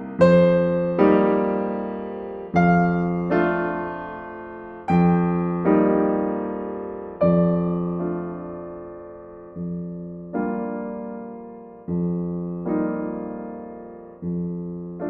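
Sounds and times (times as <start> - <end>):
slow solo piano chords: 0.0 - 15.0.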